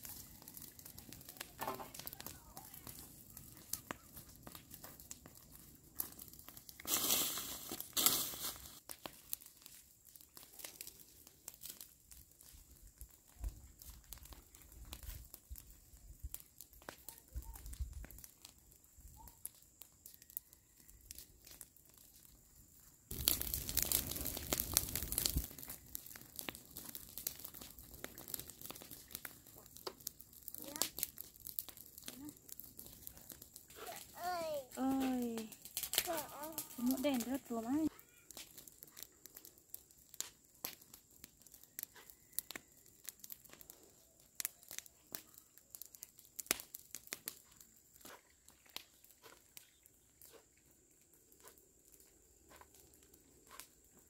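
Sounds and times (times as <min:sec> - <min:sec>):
brush fire crackling: 0:00.0 - 0:54.0.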